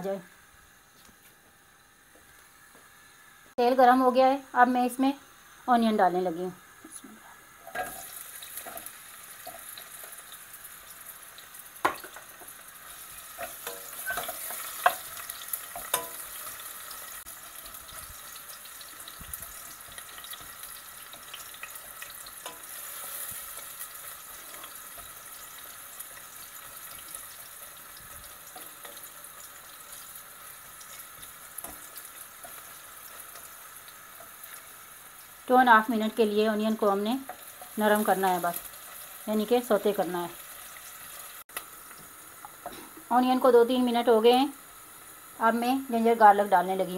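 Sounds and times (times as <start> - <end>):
onions sizzling in oil: 0.0 - 46.9.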